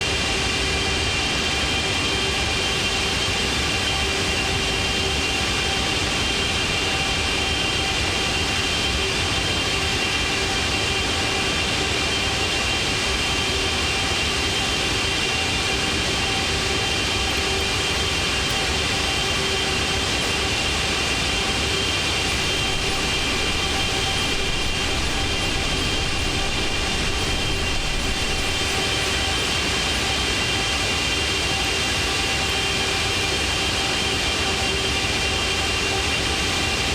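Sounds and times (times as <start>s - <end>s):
airplane engine drone: 0.0s - 36.9s.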